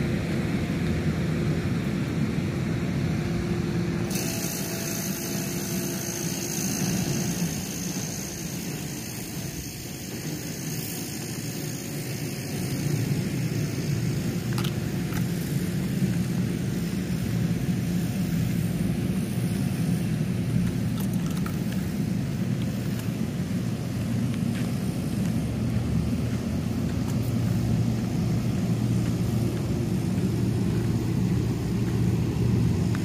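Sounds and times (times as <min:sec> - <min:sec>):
train wheels rumbling on rails: 0:03.3 - 0:33.0.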